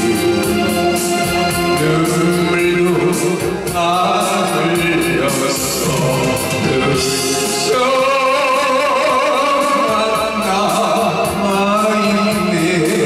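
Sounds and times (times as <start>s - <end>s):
karaoke backing track: 0.0s - 13.0s
man singing into microphone: 1.6s - 13.0s.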